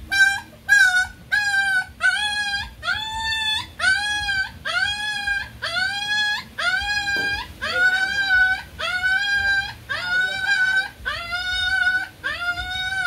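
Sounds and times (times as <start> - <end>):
puppy whining: 0.0 - 13.0.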